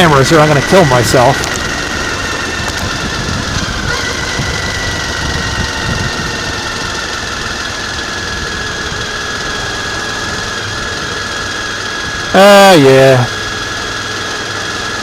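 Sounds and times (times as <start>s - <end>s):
wind noise: 0.0s - 12.4s
motorcycle engine running: 0.0s - 15.0s
road noise: 0.0s - 15.0s.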